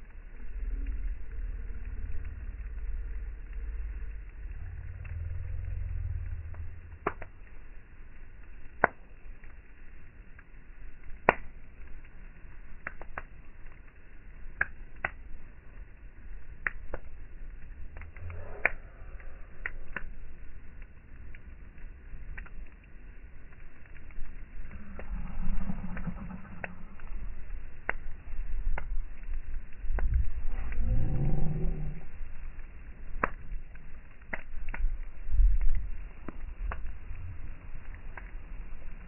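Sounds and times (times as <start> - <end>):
campfire crackling and popping: 0.0 - 39.0
low rumble: 0.0 - 39.0.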